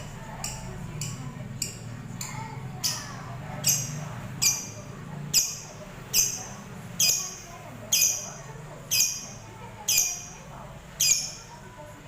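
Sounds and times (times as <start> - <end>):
bird chirping: 0.4 - 11.6.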